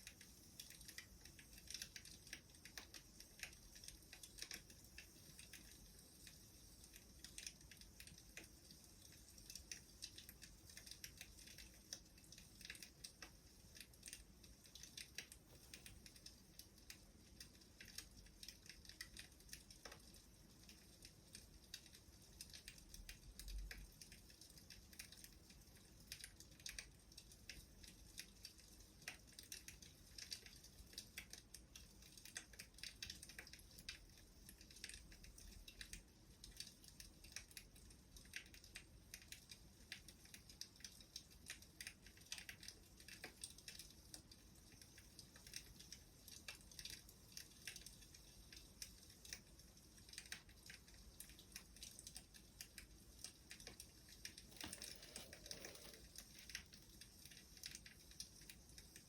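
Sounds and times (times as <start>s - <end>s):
wood fire crackling faintly: 0.0s - 59.0s.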